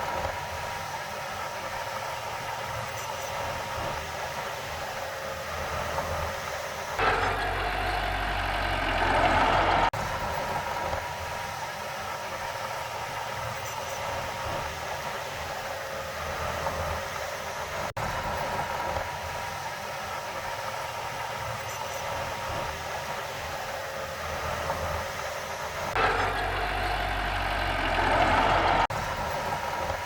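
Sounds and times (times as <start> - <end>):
diesel earthmoving machinery running: 0.0 - 30.0.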